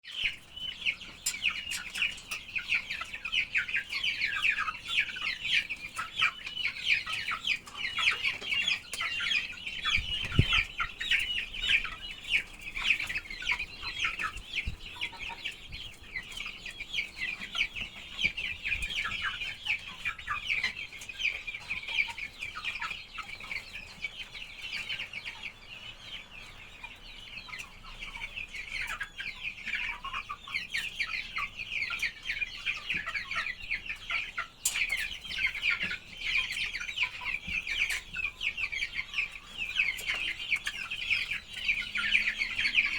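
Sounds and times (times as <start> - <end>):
chickens calling: 0.0 - 42.9.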